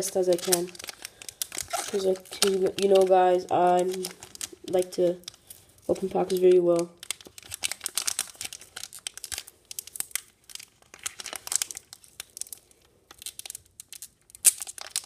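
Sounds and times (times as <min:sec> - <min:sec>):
wrapper crinkling and tearing: 0:00.0 - 0:15.0.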